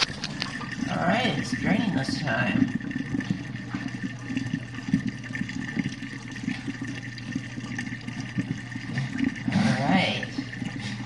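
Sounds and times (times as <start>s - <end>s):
drain pump humming: 0.0s - 11.0s
water sloshing: 0.0s - 11.0s.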